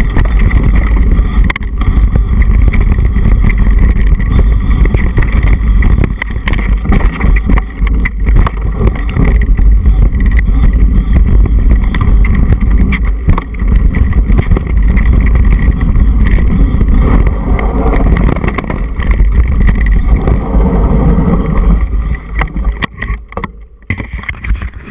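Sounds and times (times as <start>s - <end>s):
bike rattling on rough trail: 0.0s - 24.9s
wind buffeting microphone: 0.0s - 24.9s.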